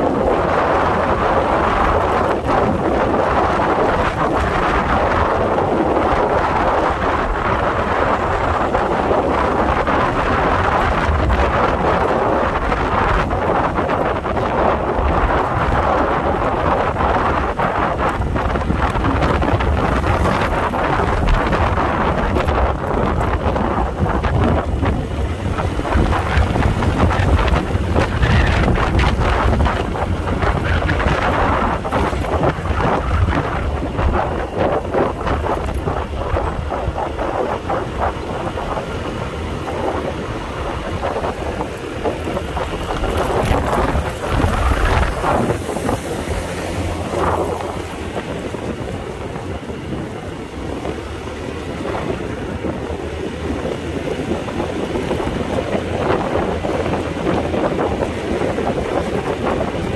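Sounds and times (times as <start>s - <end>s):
scooter engine and road noise: 0.0s - 59.9s
wind buffeting microphone: 0.0s - 59.9s.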